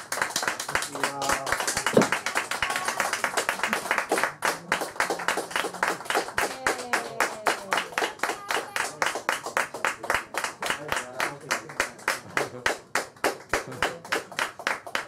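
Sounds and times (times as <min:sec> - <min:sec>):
fast even clapping: 0:00.0 - 0:15.0.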